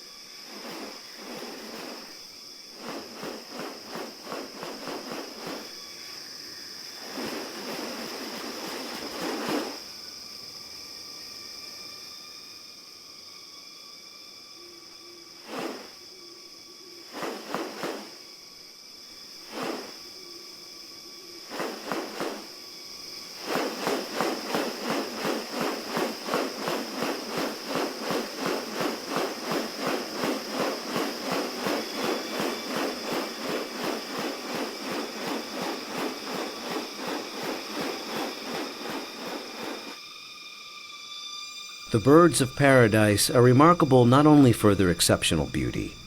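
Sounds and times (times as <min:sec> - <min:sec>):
high-pitched insect drone: 0:00.0 - 0:41.9.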